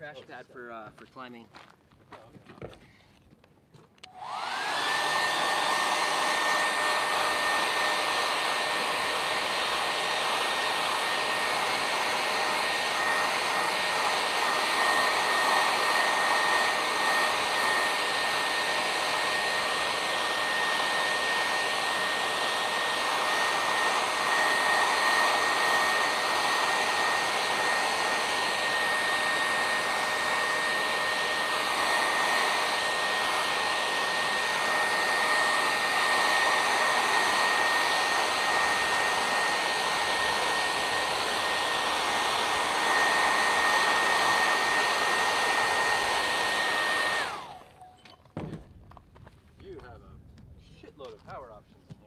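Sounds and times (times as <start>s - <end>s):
hair dryer motor whine: 4.0s - 48.0s.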